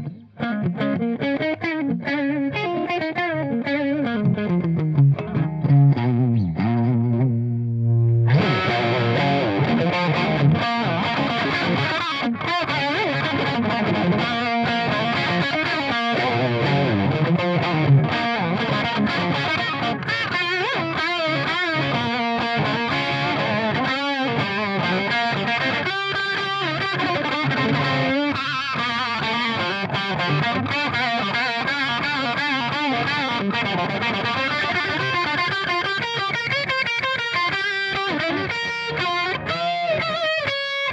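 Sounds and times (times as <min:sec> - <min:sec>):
distorted electric guitar riffing: 0:00.0 - 0:40.9.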